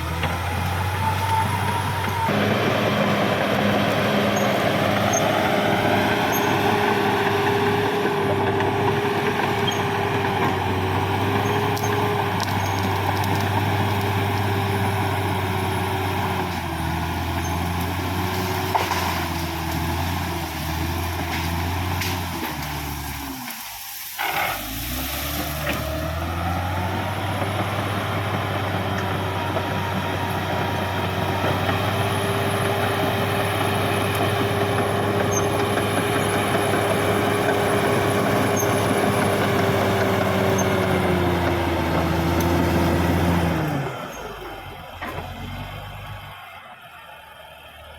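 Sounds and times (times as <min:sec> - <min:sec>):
bulldozer diesel engine revving: 0:00.0 - 0:47.9.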